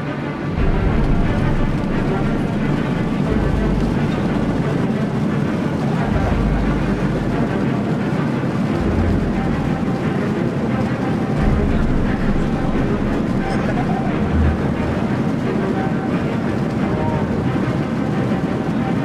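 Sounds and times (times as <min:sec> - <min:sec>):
jet engines from inside cabin: 0:00.0 - 0:19.0.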